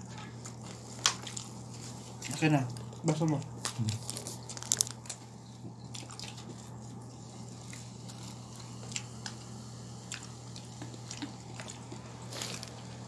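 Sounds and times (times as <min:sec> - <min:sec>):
steady low hum: 0:00.0 - 0:13.0
person chewing food: 0:00.2 - 0:12.8.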